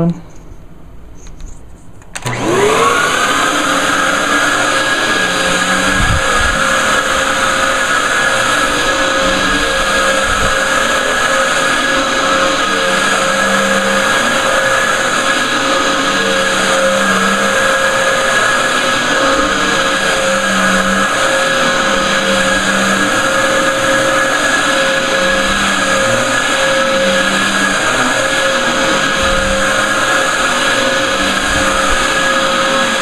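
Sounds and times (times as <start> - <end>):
vacuum cleaner motor whine: 2.1 - 33.0.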